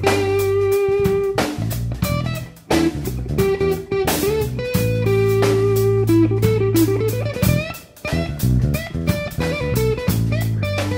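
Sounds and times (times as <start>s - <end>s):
bass: 0.0s - 10.9s
electric guitar melody: 0.0s - 10.9s
steady drum beat: 0.0s - 10.9s.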